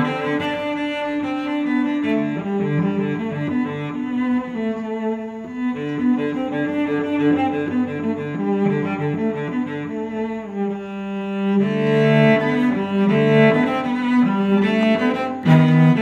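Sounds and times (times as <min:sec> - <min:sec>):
low bowed strings melody: 0:00.0 - 0:16.0.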